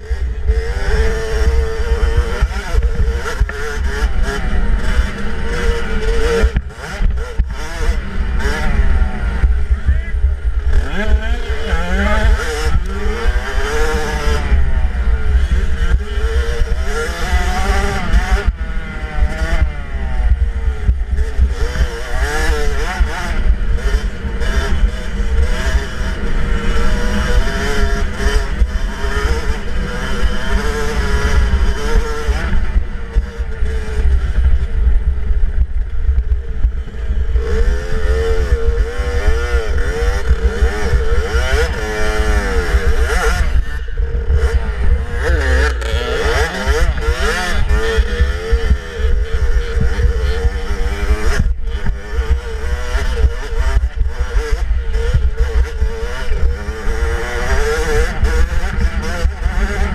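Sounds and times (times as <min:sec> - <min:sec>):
two-stroke dirt bike engine revving: 0:00.0 - 0:59.9
wind rumble on microphone: 0:00.0 - 0:59.9.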